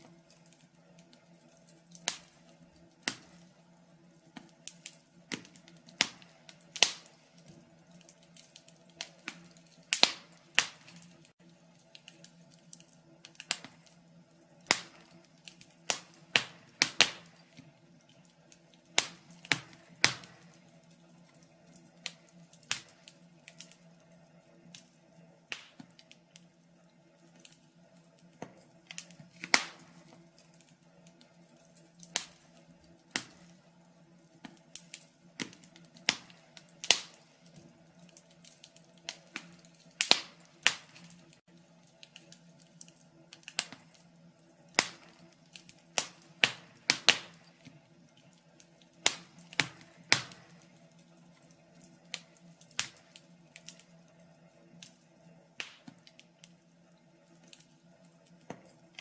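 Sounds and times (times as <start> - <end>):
faint steady hum: 0.0 - 59.0
log fire crackling: 0.0 - 59.0.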